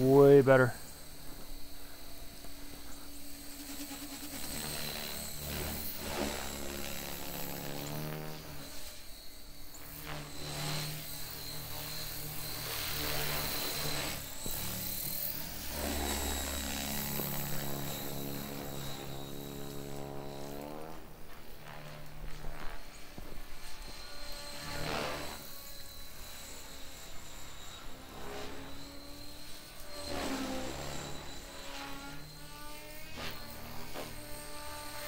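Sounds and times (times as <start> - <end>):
rc helicopter motor whine: 0.0 - 35.0
rotor buzz: 0.0 - 35.0.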